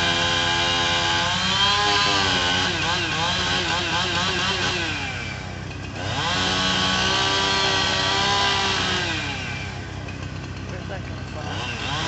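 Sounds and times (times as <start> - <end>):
chainsaw revving and cutting: 0.0 - 12.0.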